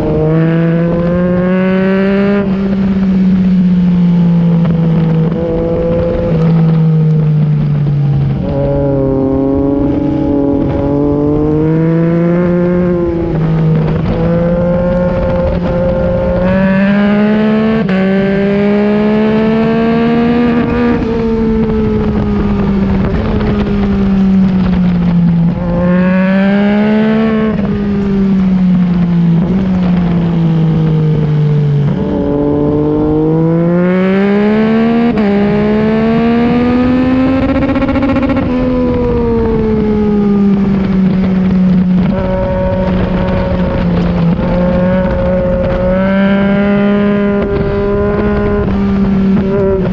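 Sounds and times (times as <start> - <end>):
motorcycle engine revving: 0.0 - 49.9
wind noise: 0.0 - 49.9.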